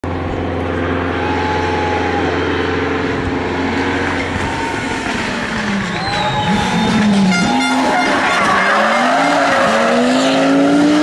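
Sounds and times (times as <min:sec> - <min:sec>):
rally car engine running hard: 0:00.0 - 0:11.0.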